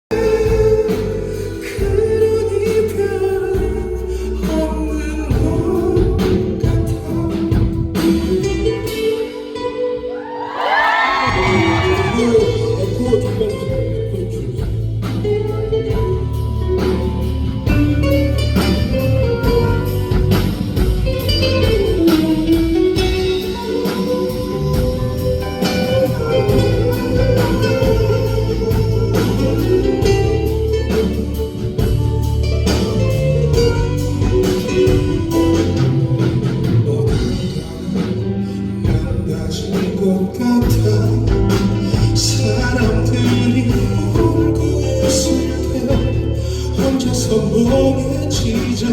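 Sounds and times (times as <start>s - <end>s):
steady drum beat: 0.1s - 9.0s, 10.5s - 48.9s
live band playing instrumental: 0.1s - 48.9s.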